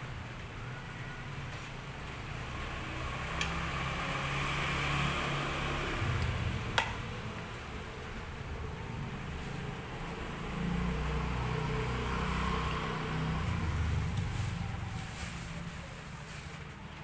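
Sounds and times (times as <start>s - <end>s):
vehicle passing by: 2.0s - 17.0s.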